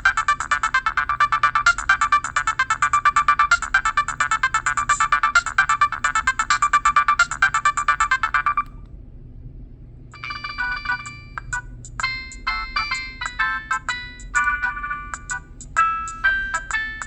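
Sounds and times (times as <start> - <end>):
mobile phone ringtone melodies: 0.0 - 8.7, 10.2 - 17.0.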